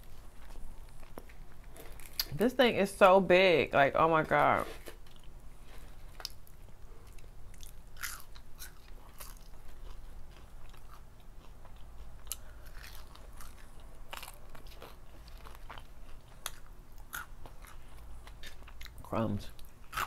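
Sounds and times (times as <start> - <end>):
crunchy chewing of fried food: 0.0 - 2.4, 4.7 - 20.0.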